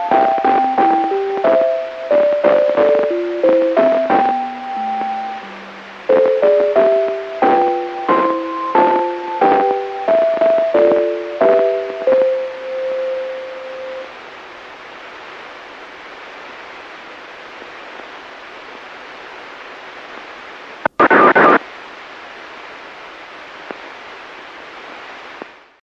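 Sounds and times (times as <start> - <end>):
burst of static: 0.0 - 25.8
radio receiver hiss: 0.0 - 25.8.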